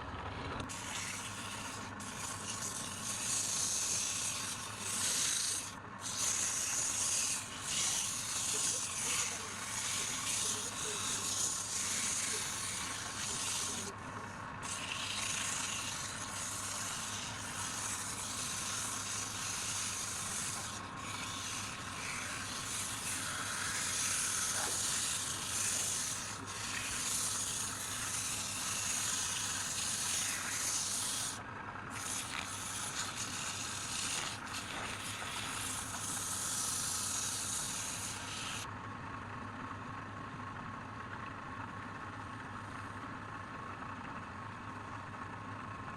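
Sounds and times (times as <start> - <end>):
wood lathe motor hum: 0.0 - 38.7
sanding hiss on spinning wood: 0.6 - 38.7.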